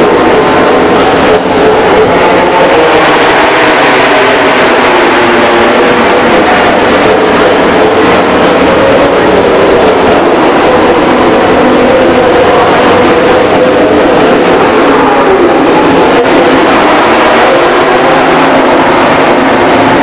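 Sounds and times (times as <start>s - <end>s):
racing motorcycle engine: 0.0s - 20.0s.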